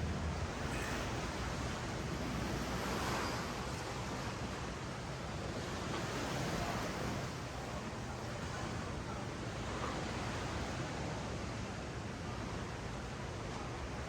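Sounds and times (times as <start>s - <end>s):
ocean waves on beach: 0.0s - 11.5s.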